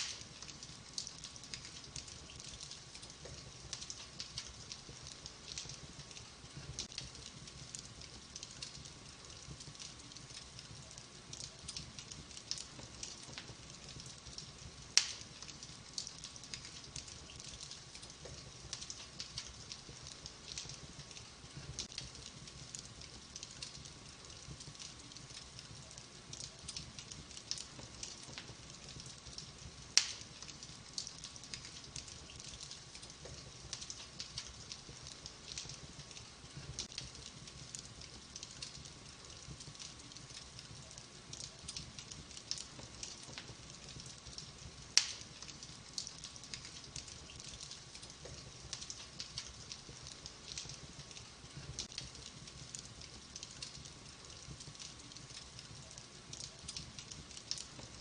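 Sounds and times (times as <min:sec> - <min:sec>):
fire sharp pops: 0:00.0 - 0:58.0
wood fire crackling: 0:00.0 - 0:58.0.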